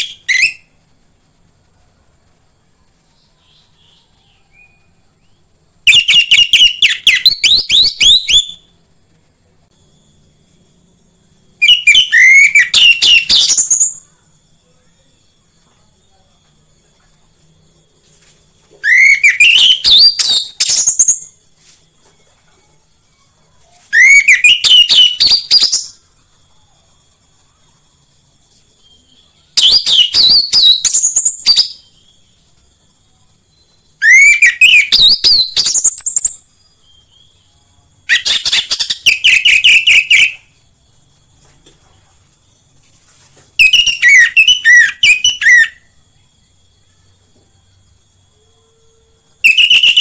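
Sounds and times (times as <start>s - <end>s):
faint high hiss: 0.0s - 50.0s.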